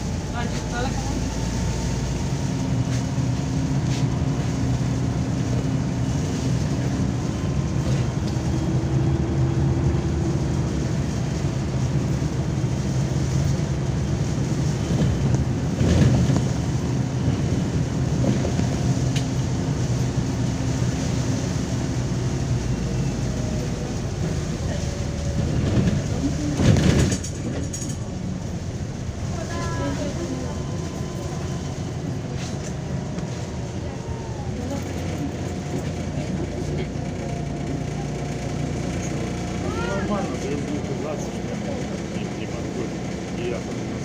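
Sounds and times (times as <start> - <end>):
bus diesel engine hum: 0.0 - 44.0
road noise: 0.0 - 44.0.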